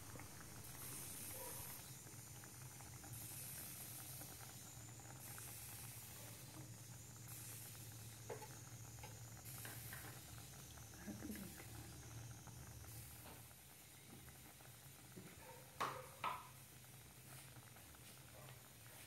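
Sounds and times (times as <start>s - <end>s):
curry bubbling in a pan: 0.0s - 19.0s.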